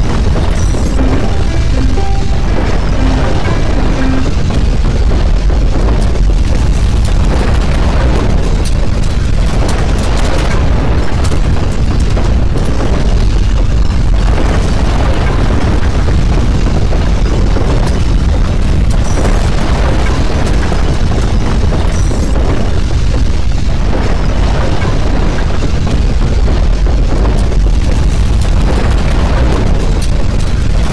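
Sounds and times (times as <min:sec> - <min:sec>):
earthquake rumble: 0:04.4 - 0:30.9
crackles and rattles: 0:04.8 - 0:30.9.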